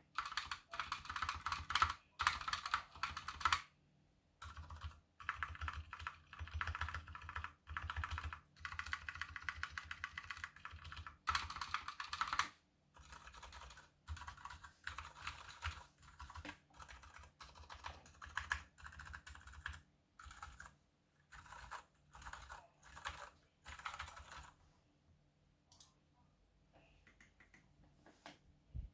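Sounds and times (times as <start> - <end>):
typing on mechanical keyboard: 0.1 - 3.7, 4.4 - 24.6.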